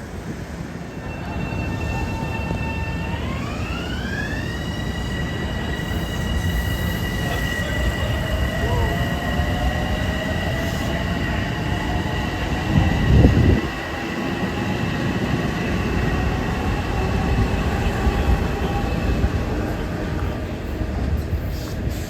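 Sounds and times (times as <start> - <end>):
electric train rumbling: 0.0 - 22.0
high-pitched train whine: 0.0 - 22.0.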